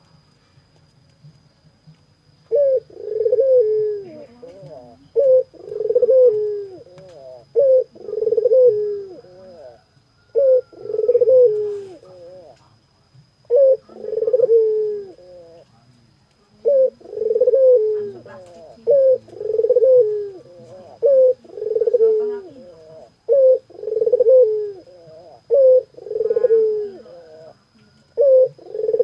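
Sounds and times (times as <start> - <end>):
dove cooing: 2.5 - 12.6, 13.4 - 15.8, 16.6 - 29.0.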